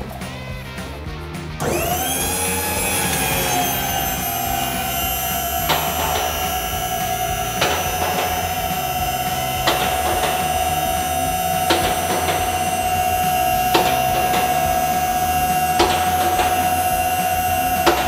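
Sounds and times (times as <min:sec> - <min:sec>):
lift power unit whine: 0:00.0 - 0:18.0
lift locks clicking: 0:02.8 - 0:18.0.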